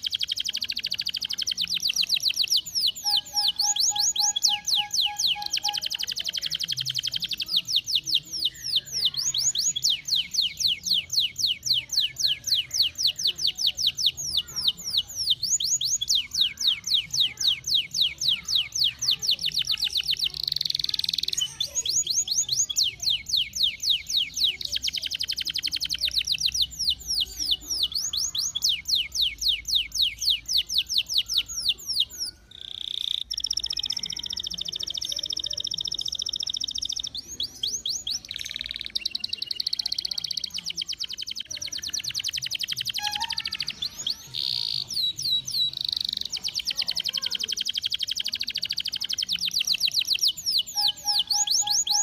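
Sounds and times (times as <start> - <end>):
canary singing: 0.0 - 52.0.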